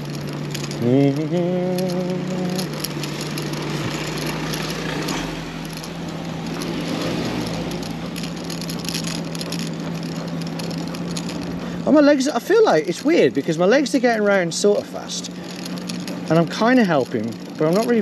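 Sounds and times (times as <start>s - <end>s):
electric motor humming: 0.0s - 18.0s
wind and road rattle on microphone: 0.0s - 18.0s.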